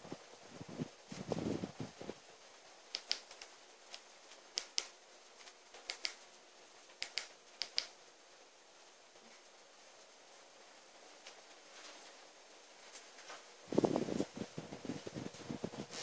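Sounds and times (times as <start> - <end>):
faint steady hiss: 0.0 - 16.0
fireplace fire crackling: 0.0 - 16.0.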